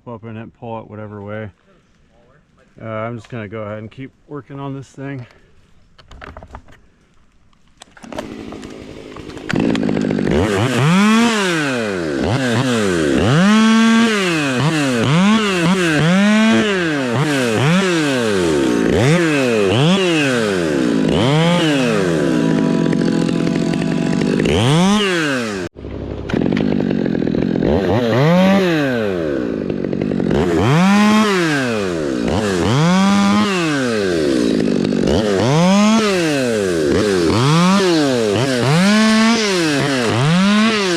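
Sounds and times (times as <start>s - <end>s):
chainsaw cutting wood: 7.7s - 40.9s.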